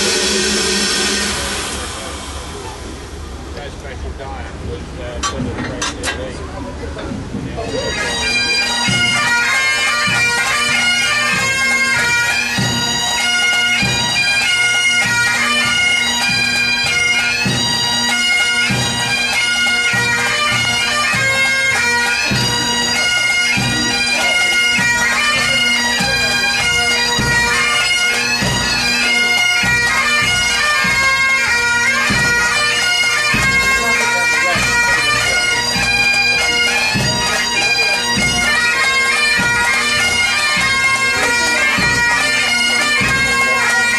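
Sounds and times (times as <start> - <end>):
bagpipe band playing: 0.0 - 4.4, 7.5 - 43.9
drum beating: 0.0 - 4.6, 7.0 - 43.9.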